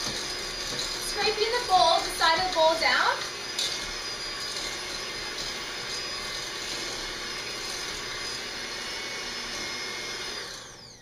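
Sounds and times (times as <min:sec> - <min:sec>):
electric hand blender running: 0:00.0 - 0:11.0.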